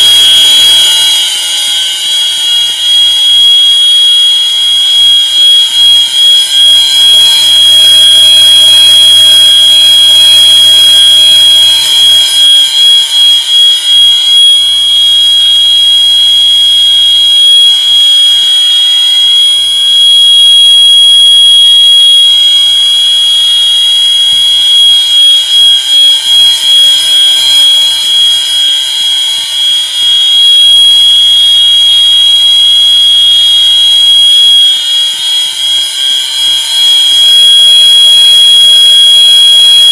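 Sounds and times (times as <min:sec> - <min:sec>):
fire alarm horns whooping: 0:00.0 - 0:39.9
steady high ringing tone: 0:00.0 - 0:39.9.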